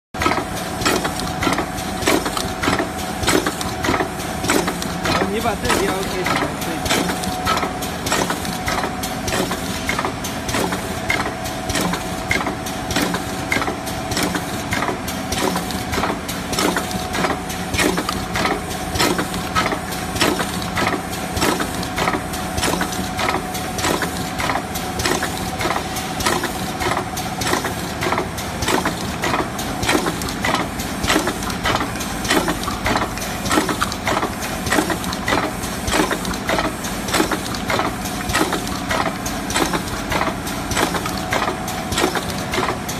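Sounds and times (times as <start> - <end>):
constant machine hum: 0.2 - 42.9
machine clacking: 0.2 - 42.9.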